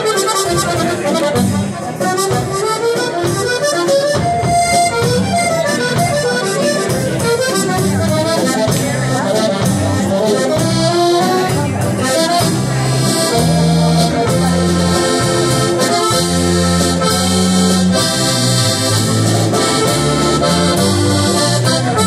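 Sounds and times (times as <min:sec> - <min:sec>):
drum kit: 0:00.0 - 0:22.0
piano accordion: 0:00.0 - 0:22.0.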